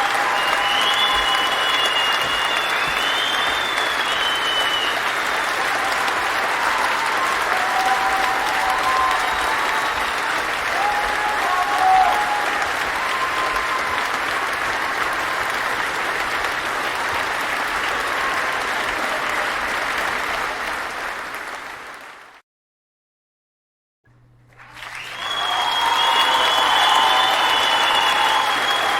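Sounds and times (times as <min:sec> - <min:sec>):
crowd clapping: 0:00.0 - 0:22.4, 0:24.5 - 0:28.9.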